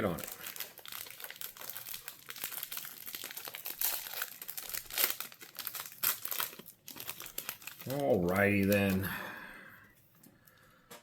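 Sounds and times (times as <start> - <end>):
foil wrapper tearing and crinkling: 0.0 - 9.1.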